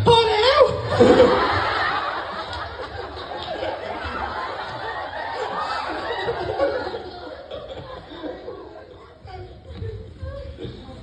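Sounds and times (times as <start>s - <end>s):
crowd laughing and chattering: 0.7s - 11.0s.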